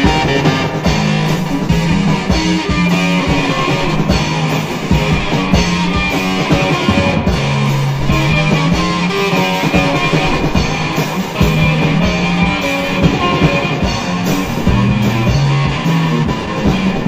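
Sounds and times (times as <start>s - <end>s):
rock music with guitars and bass: 0.0s - 17.0s.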